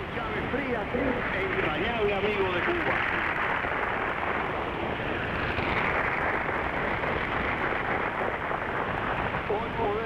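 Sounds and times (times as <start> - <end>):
shortwave radio static: 0.0 - 10.0.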